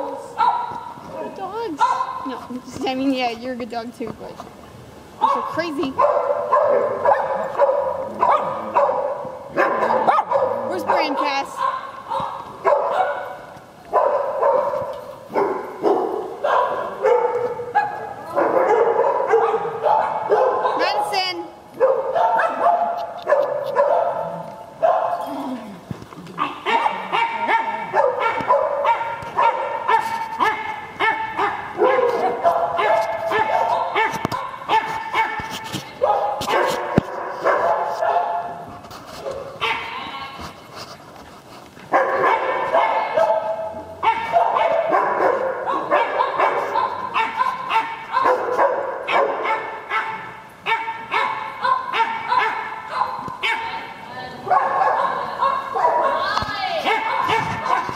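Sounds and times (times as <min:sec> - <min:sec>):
dog barking rapidly: 0:01.8 - 0:02.3, 0:05.2 - 0:25.2, 0:26.4 - 0:38.6, 0:39.2 - 0:40.0, 0:41.9 - 0:53.8, 0:54.5 - 0:57.9.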